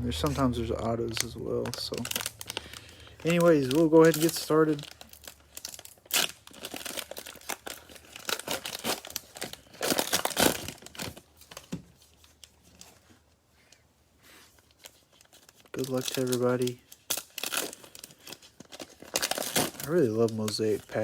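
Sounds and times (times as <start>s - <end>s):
cellophane wrappers crinkling: 0.1s - 13.8s, 14.4s - 21.0s.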